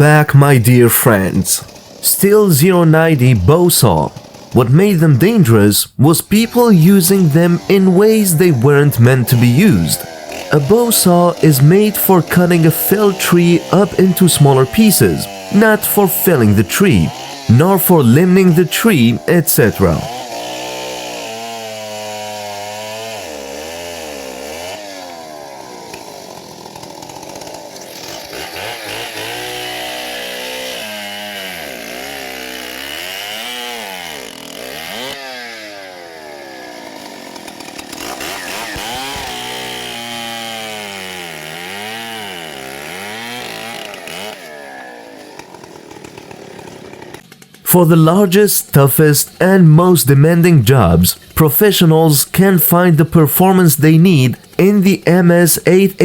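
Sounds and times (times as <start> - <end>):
chainsaw cutting wood: 0.0 - 5.6, 6.4 - 56.0.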